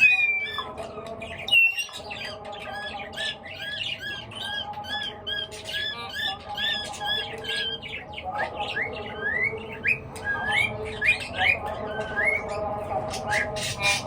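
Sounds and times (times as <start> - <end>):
birds chirping and squawking: 0.0 - 14.0.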